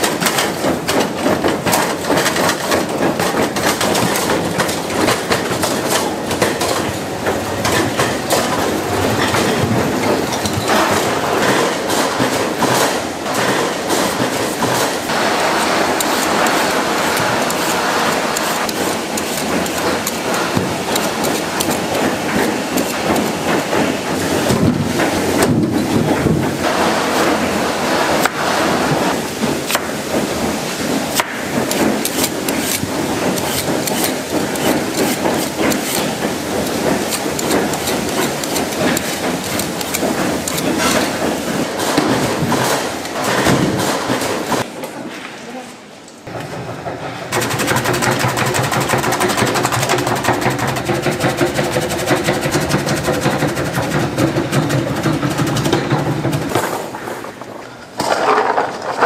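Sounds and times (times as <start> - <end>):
processing line clattering din: 0.0 - 45.2, 46.3 - 59.0.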